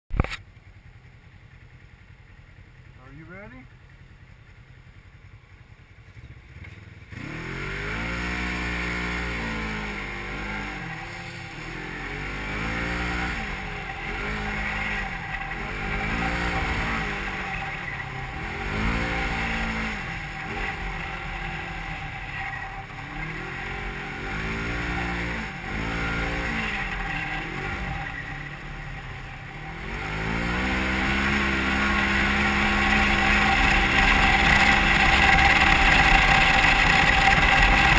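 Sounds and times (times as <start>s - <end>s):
engine revving up and down: 7.1s - 37.9s.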